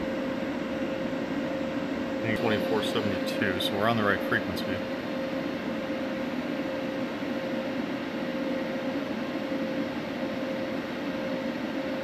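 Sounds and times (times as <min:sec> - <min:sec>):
machine hum with steady tone: 0:00.0 - 0:12.0.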